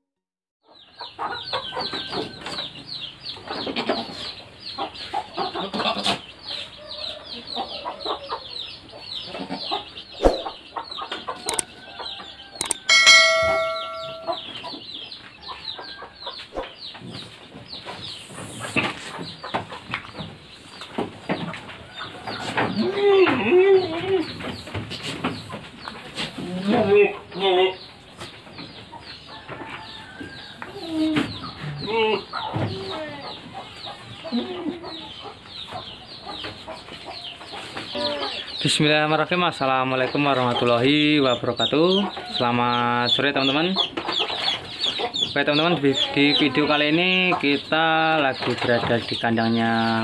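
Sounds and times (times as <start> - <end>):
chickens clucking and cheeping: 0.6 - 50.0.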